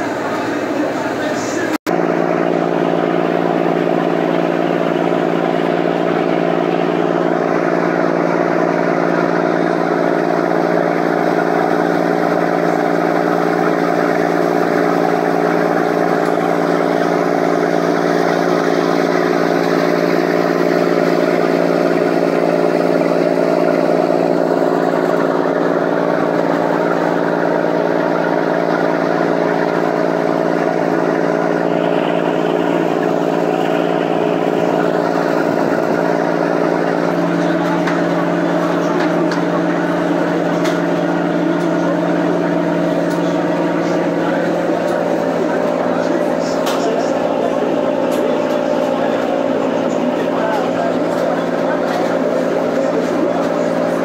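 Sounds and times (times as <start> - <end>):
ferry engine droning: 0.0 - 54.0.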